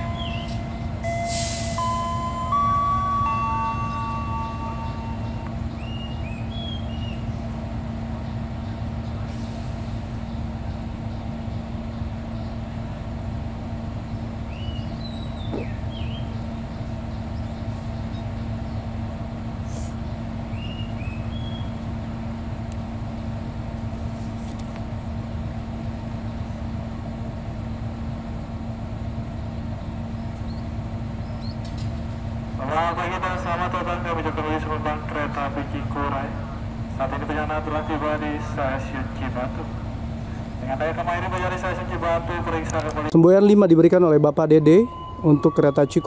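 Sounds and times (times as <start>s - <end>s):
diesel train idling: 0.0s - 46.0s.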